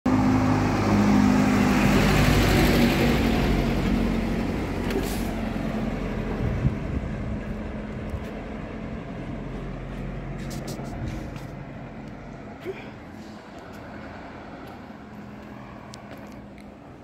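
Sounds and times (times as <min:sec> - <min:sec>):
vehicle engine humming: 0:00.1 - 0:17.0.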